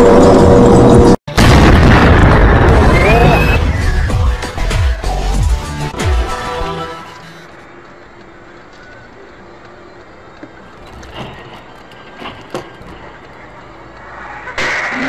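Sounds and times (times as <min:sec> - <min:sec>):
road and engine noise: 0:00.0 - 0:01.4, 0:03.8 - 0:15.0.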